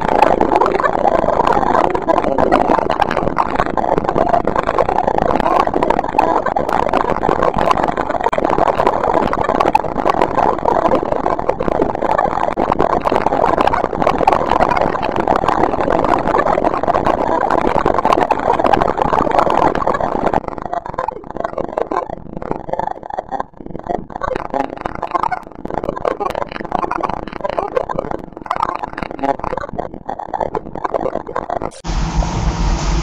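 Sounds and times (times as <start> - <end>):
crackling machine-like noise drone: 0.0 - 33.0.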